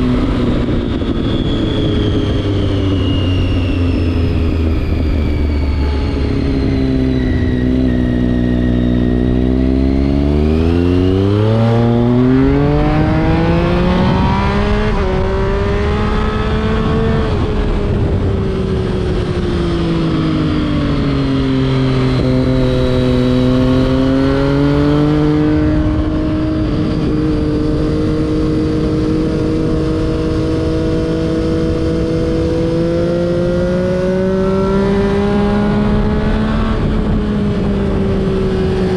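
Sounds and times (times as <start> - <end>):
motorcycle engine accelerating: 0.0 - 38.9
wind noise: 0.0 - 38.9.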